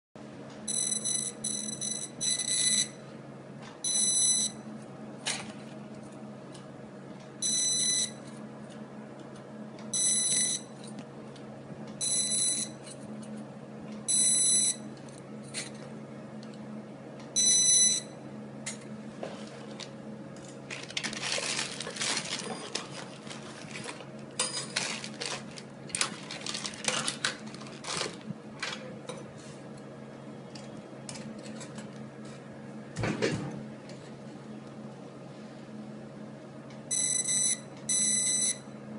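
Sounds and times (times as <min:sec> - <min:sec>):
low machine hum: 0:00.2 - 0:38.9.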